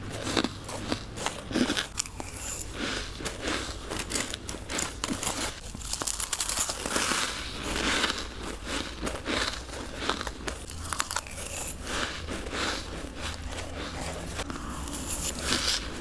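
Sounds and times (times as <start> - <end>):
teeth crunching frost: 0.0 - 16.0.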